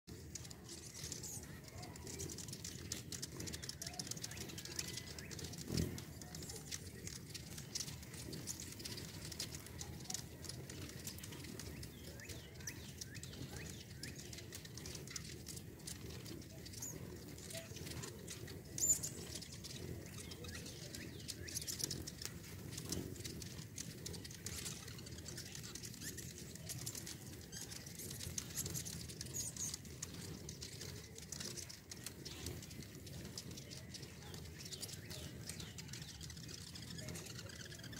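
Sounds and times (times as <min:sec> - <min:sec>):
hummingbirds chipping and squeaking: 0:00.1 - 0:37.9
whir of wings: 0:00.1 - 0:37.9.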